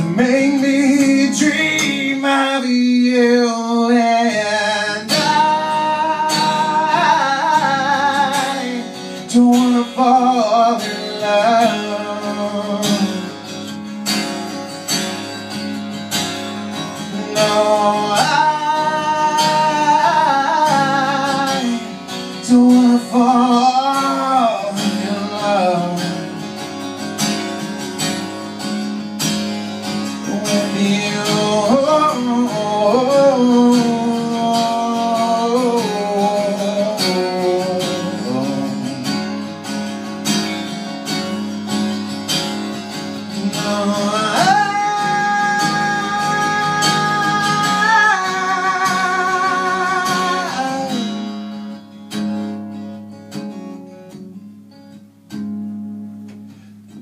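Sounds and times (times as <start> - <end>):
acoustic guitars playing ballad: 0.0 - 57.0.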